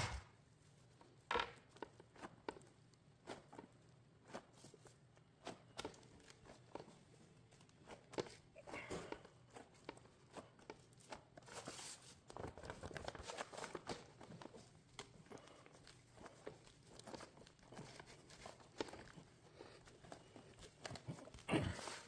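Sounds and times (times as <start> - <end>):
rustling and scraping: 0.0 - 22.0.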